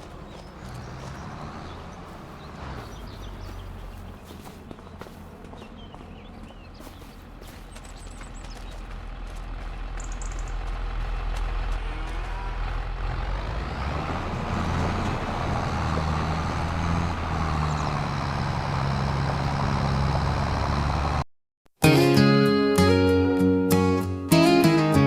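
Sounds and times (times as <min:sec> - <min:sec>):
heavy vehicle engine running: 0:00.0 - 0:21.3.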